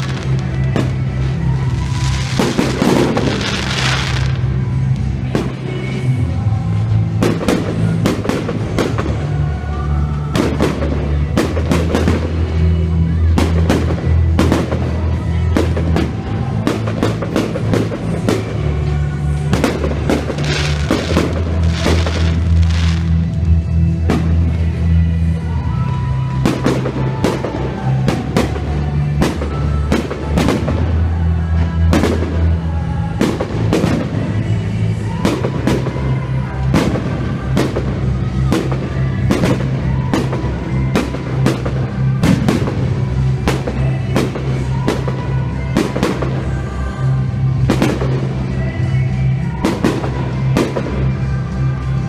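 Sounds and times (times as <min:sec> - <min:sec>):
loud music with bass: 0:00.0 - 0:52.0.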